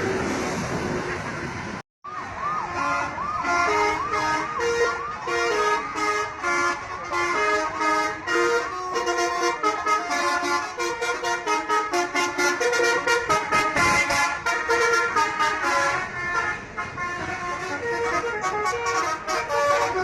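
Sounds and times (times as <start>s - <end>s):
multi-tone bus horn melody: 2.5s - 20.0s.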